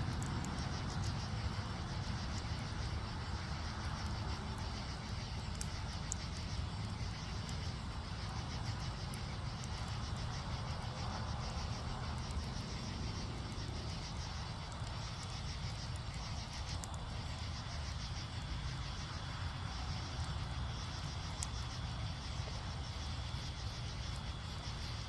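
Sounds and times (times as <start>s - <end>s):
fire popping: 0.0s - 25.0s
wood fire rumbling: 0.0s - 25.0s.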